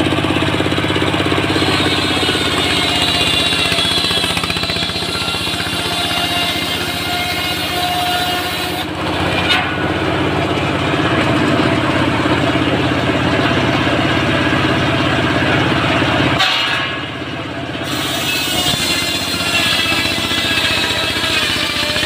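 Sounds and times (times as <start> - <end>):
sawmill engine drone: 0.0 - 22.0
circular saw ripping log: 1.4 - 13.9, 14.7 - 22.0.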